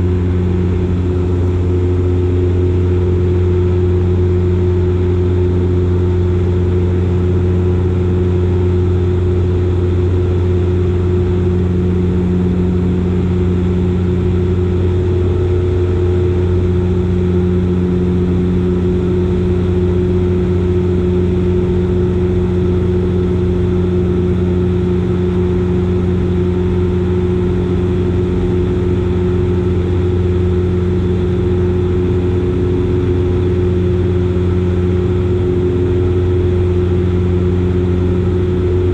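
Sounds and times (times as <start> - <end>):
turboprop engines droning in cabin: 0.0 - 38.9.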